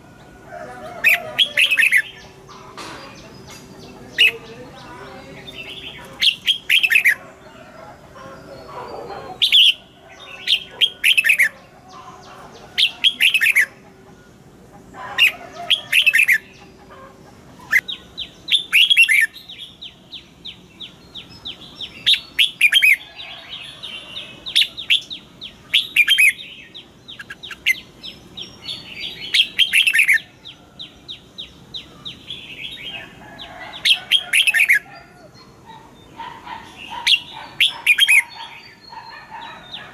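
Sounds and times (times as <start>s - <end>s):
bulbuls singing: 0.0s - 39.9s.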